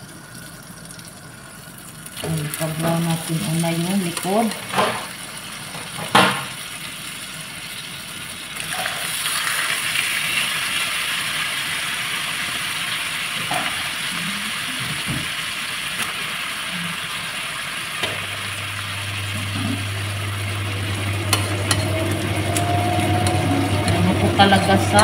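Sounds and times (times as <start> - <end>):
chicken sizzling in pan: 1.4 - 24.8.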